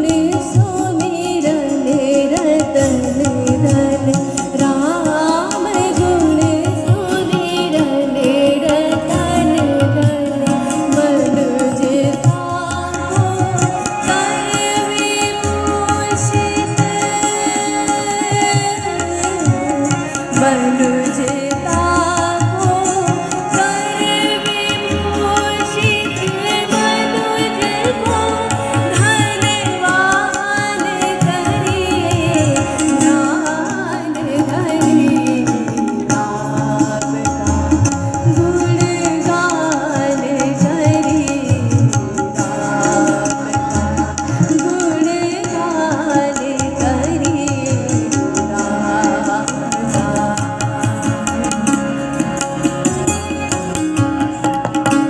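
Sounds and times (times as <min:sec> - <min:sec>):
woman singing: 0:00.0 - 0:53.8
harmonium chords: 0:00.0 - 0:55.0
tabla strokes: 0:00.0 - 0:55.0.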